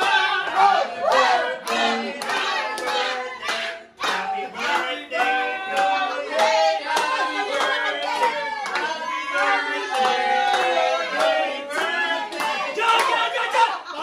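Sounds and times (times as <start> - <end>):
people clapping along: 0.0 - 14.0
people singing together: 0.0 - 14.0.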